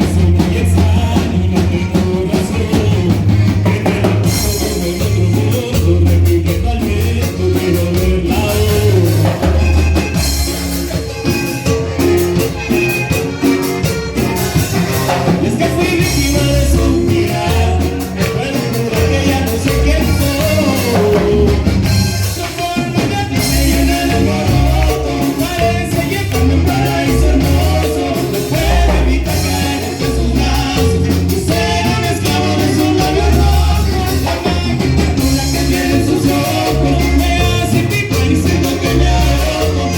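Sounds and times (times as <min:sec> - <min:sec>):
upbeat latin band with singing: 0:00.0 - 0:39.9.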